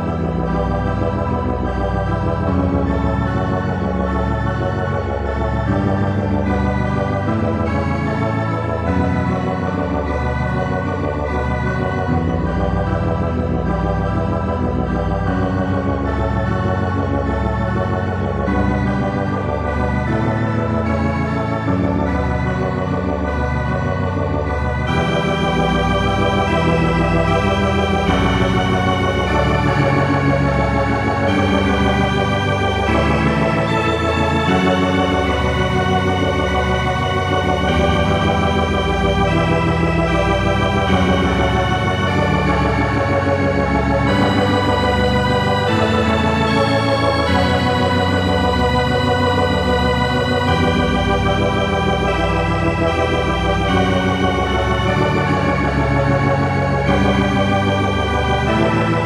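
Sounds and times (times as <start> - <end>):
organ-toned synth chords: 0.0 - 59.0.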